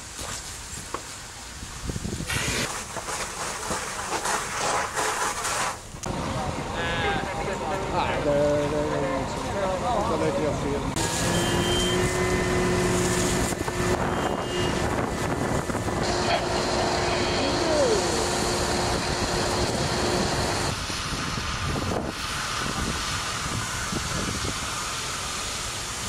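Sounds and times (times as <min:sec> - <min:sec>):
hoses spraying water: 0:00.0 - 0:06.1, 0:07.8 - 0:26.0
fire engine pumps running: 0:00.0 - 0:26.0.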